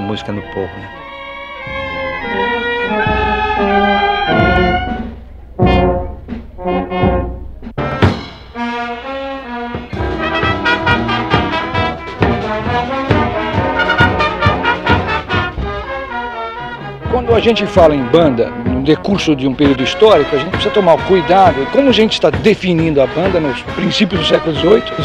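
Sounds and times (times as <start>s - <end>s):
brass band playing: 0.0s - 25.0s
drums and cymbals beat: 1.6s - 25.0s.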